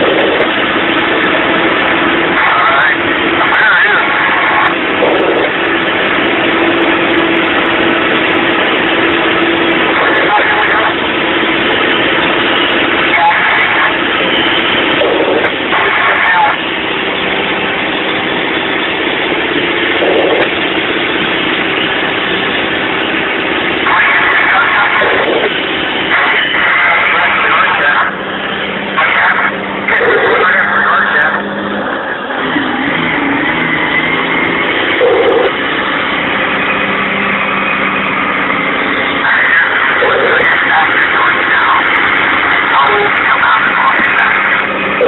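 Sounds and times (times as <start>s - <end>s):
diesel truck engine running: 0.0s - 45.0s
road and cab noise: 0.0s - 45.0s.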